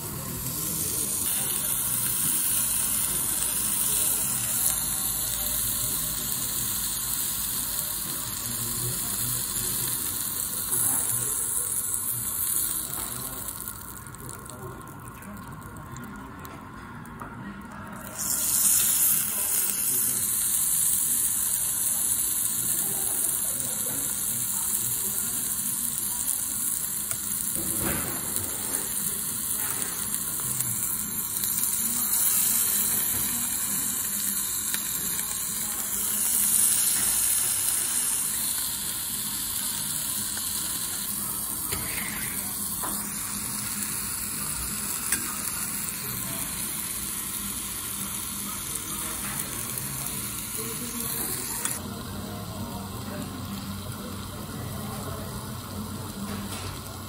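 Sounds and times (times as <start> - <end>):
meat sizzling on grill: 0.0 - 57.0.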